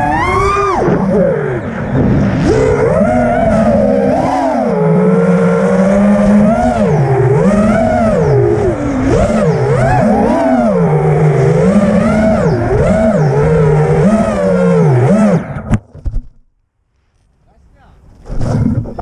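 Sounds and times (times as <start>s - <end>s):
drone motors whining: 0.0s - 15.8s.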